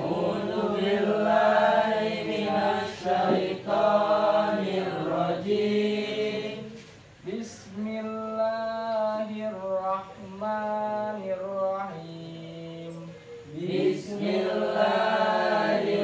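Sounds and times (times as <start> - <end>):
men chanting: 0.0 - 6.7, 7.3 - 16.0.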